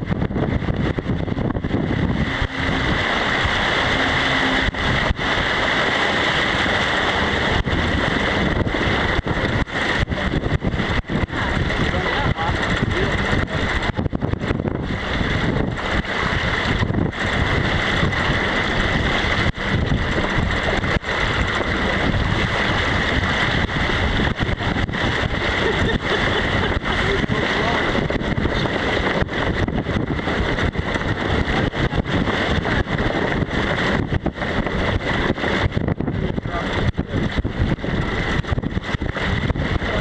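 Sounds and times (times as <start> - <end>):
water rushing along hull: 0.0 - 40.0
wind buffeting microphone: 0.0 - 40.0.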